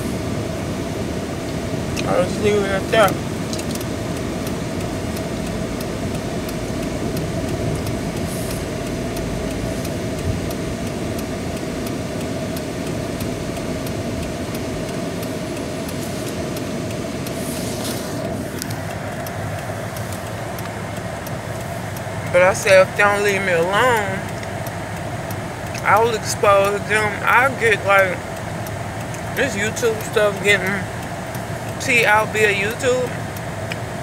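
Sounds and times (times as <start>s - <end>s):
car cabin hum: 0.0s - 34.0s.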